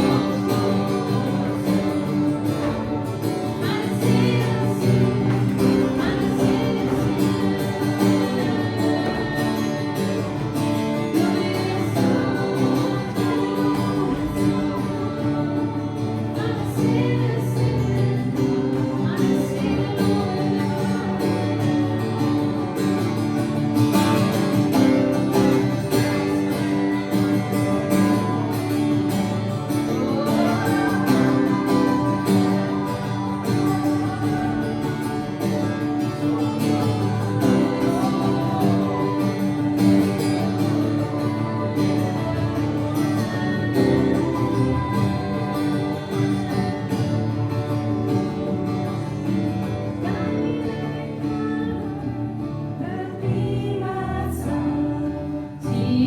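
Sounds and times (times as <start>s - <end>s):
guitar accompaniment: 0.0s - 56.0s
people singing: 0.0s - 56.0s.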